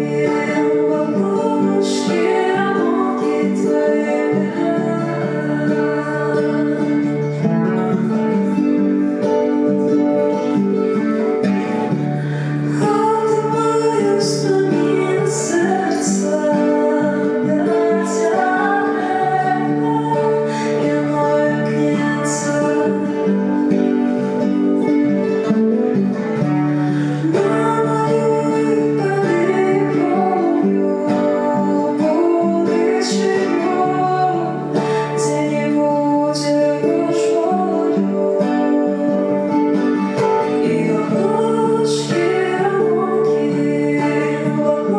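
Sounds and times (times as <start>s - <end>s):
acoustic guitar strumming: 0.0s - 44.9s
woman singing: 0.0s - 44.9s.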